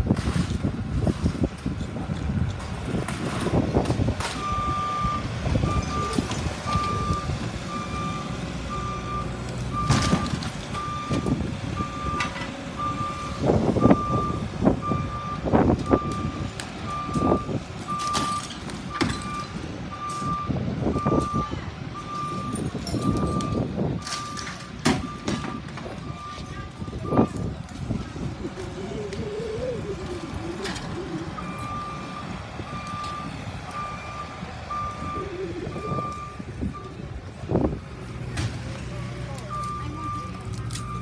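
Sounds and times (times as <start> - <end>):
low engine rumble: 0.0 - 41.0
vehicle reversing alarm beeping: 4.2 - 41.0.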